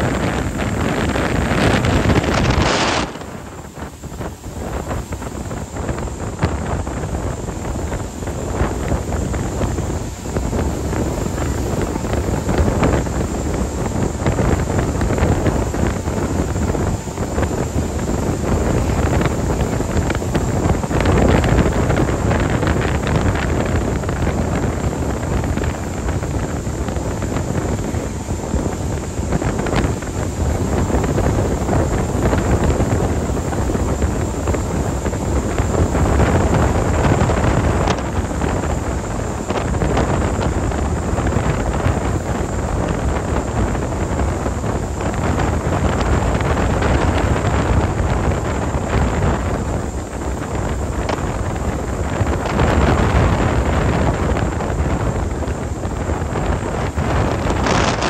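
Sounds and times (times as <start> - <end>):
rushing water: 0.0 - 58.0
wind buffeting microphone: 0.0 - 58.0.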